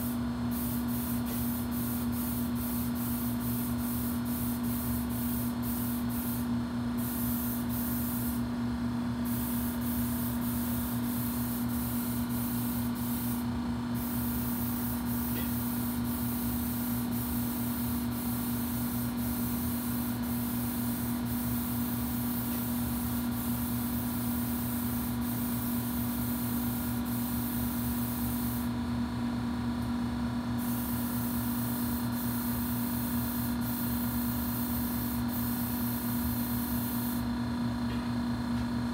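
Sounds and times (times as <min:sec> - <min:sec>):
paint spray gun hissing: 0:00.0 - 0:08.4, 0:09.2 - 0:28.7, 0:30.6 - 0:37.3.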